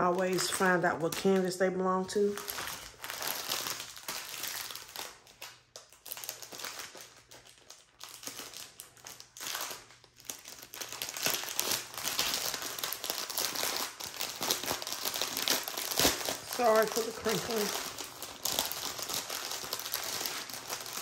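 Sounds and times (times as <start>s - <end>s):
plastic packet crinkling: 0.0s - 21.0s.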